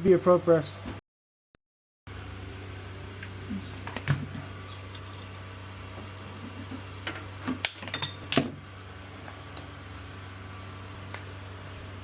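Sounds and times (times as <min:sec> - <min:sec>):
steady low hum: 0:02.1 - 0:12.0.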